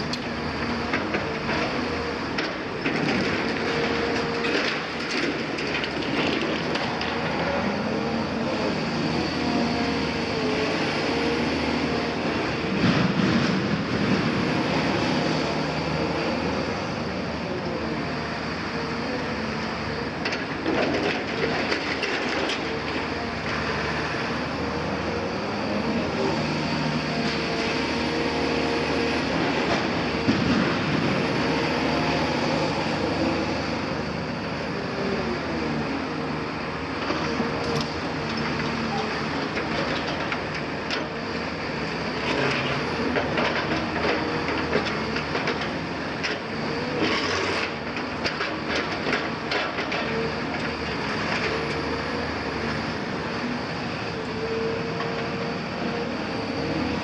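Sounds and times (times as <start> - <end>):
excavator diesel drone: 0.0 - 57.0
hydraulic whine: 0.0 - 57.0.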